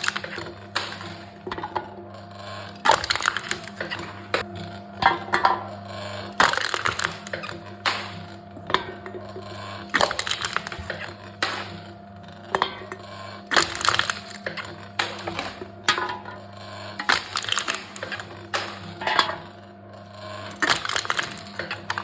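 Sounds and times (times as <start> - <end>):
cans crushed in a machine: 0.0 - 22.0.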